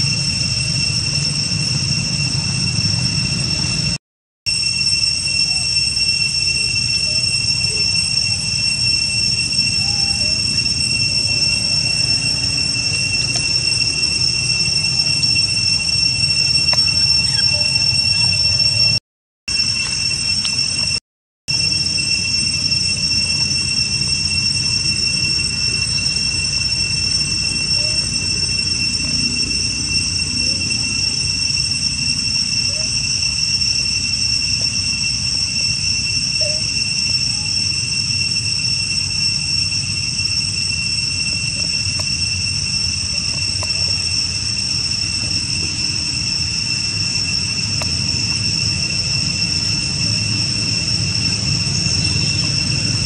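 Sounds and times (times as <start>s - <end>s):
high-pitched insect drone: 0.0s - 53.0s.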